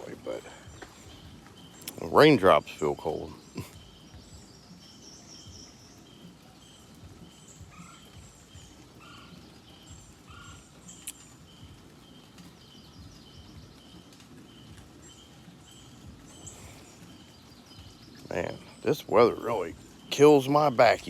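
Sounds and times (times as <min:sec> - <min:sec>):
higher bird chirps: 0:00.0 - 0:21.0
lower bird calls: 0:00.0 - 0:21.0.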